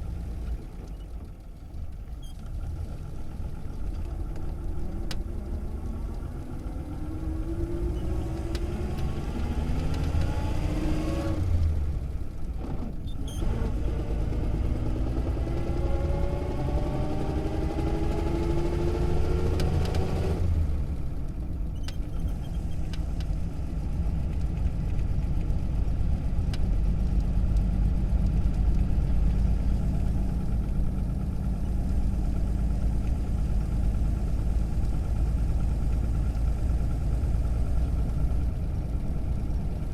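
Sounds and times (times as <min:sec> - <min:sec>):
car engine accelerating: 0:00.0 - 0:39.9
low road rumble: 0:00.0 - 0:39.9.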